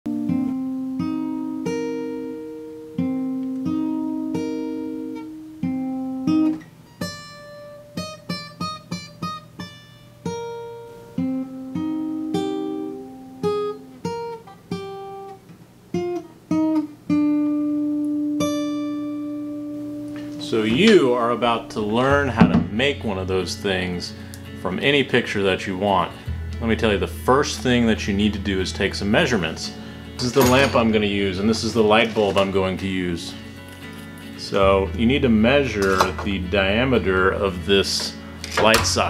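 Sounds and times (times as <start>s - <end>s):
acoustic guitar picked melody: 0.1s - 39.0s.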